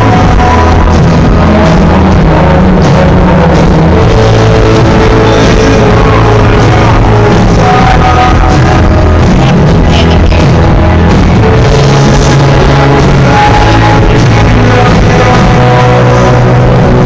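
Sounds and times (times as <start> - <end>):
drums: 0.0 - 17.0
electric guitars: 0.0 - 17.0
keyboards: 0.0 - 17.0.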